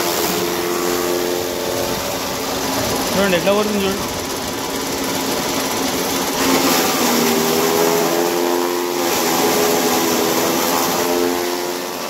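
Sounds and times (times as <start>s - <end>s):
chaff cutter whirring hum: 0.0s - 12.0s.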